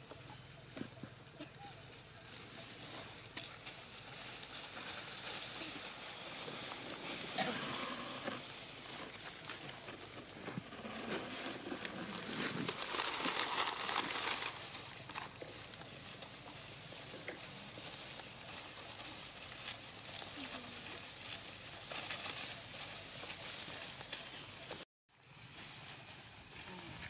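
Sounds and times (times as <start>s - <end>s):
dry leaves rustling and crackling: 0.6s - 27.0s.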